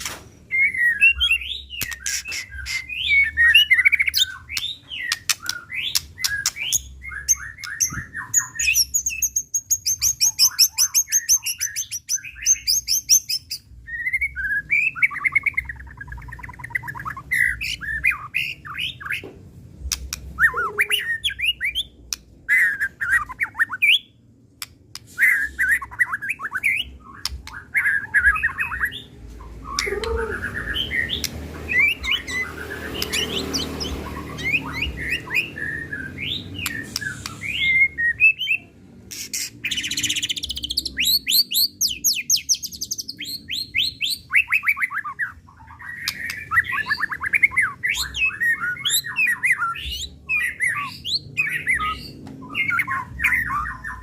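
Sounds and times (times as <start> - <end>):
songbird whistling song: 0.0 - 19.3, 19.9 - 54.0.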